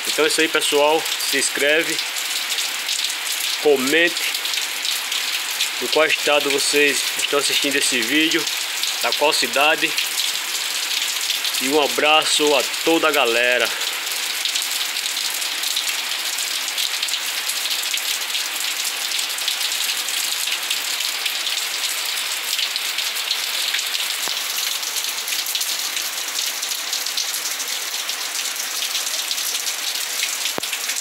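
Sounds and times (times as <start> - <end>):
heavy rain on a balcony: 0.0 - 31.0.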